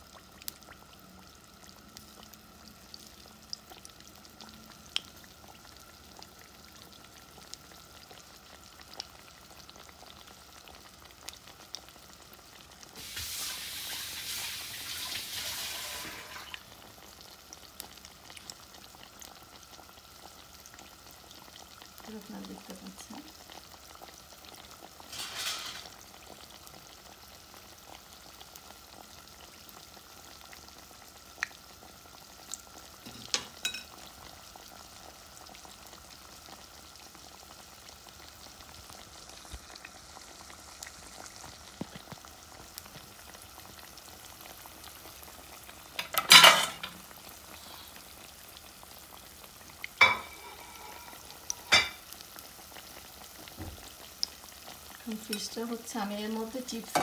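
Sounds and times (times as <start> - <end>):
fish frying in hot oil: 0.0 - 57.0.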